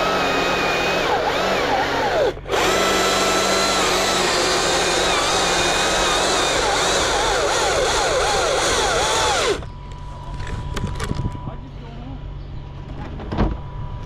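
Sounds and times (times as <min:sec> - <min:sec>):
motorized equipment whining: 0:00.0 - 0:11.5.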